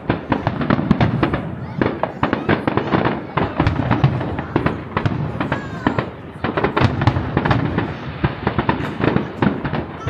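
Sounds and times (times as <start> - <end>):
fireworks bangs: 0.0 - 10.0
fireworks crackle: 0.0 - 10.0.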